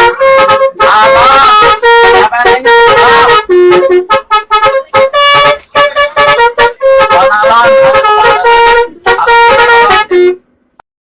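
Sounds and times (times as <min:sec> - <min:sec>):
air horn playing a melody: 0:00.0 - 0:10.4.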